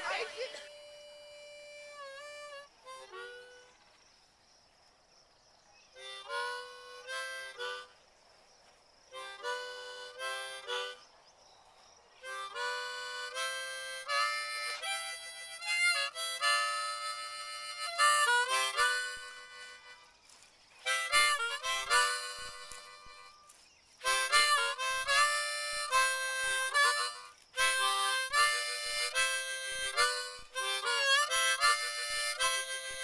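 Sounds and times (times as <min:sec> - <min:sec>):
harmonica playing chords: 0:00.0 - 0:03.8, 0:06.0 - 0:08.0, 0:09.1 - 0:11.0, 0:12.2 - 0:20.2, 0:20.8 - 0:33.0.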